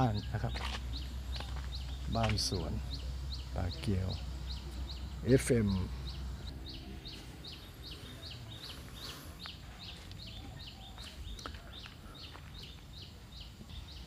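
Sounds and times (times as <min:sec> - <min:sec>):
bird chirping: 0:00.0 - 0:14.0
faint outdoor background noise: 0:00.0 - 0:14.0.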